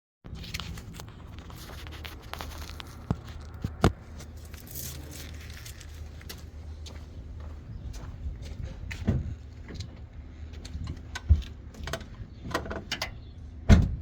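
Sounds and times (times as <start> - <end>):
low steady hum: 0.3 - 13.9.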